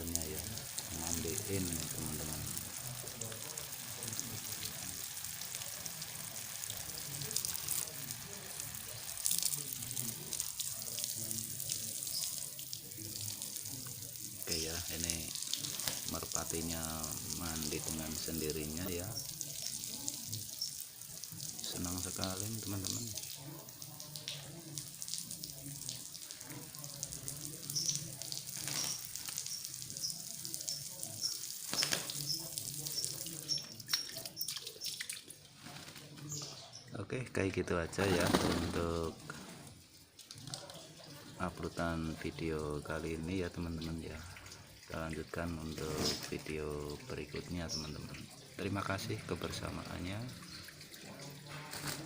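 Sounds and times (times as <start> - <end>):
pigeon splashing in water: 0.0 - 36.6, 37.9 - 42.0, 43.6 - 48.6, 49.2 - 52.0
water running and splashing: 0.0 - 36.9, 37.6 - 52.0.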